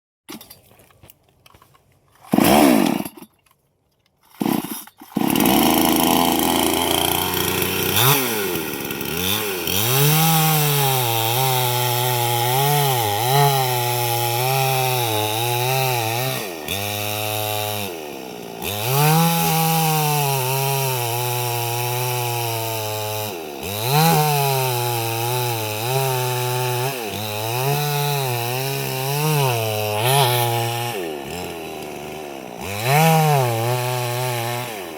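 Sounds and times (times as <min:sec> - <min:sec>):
chainsaw cutting wood: 0:01.6 - 0:03.4, 0:04.3 - 0:34.9.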